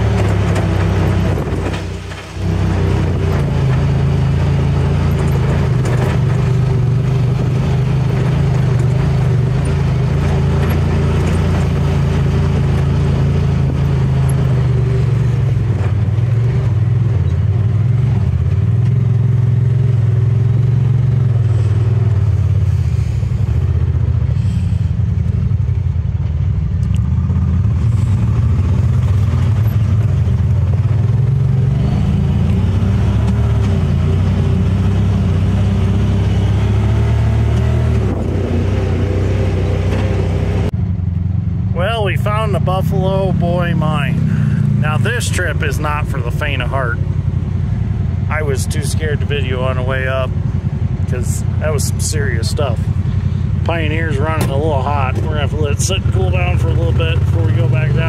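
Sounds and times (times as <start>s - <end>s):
vehicle engine under load: 0.0s - 58.0s.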